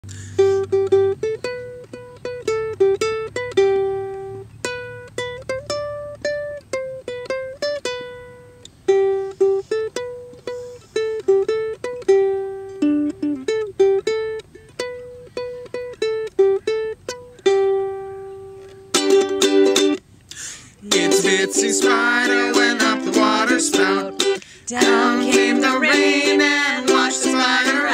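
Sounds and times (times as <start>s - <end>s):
plucked string melody: 0.0s - 20.2s, 20.8s - 27.9s
strummed chords: 0.1s - 20.0s, 20.8s - 27.9s.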